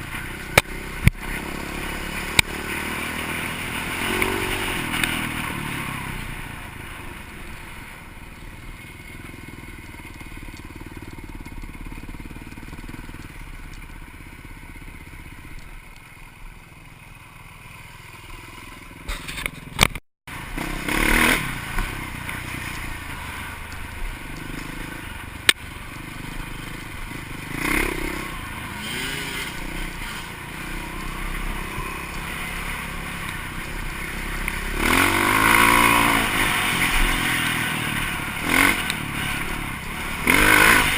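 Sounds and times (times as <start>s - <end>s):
off-road vehicle engine under load: 0.0s - 40.9s.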